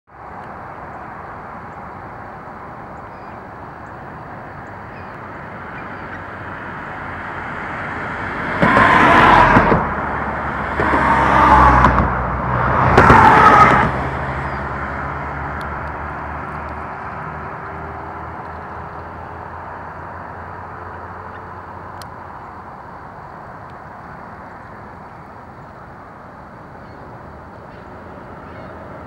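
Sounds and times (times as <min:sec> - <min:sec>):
motor vehicles passing: 0:00.1 - 0:29.0.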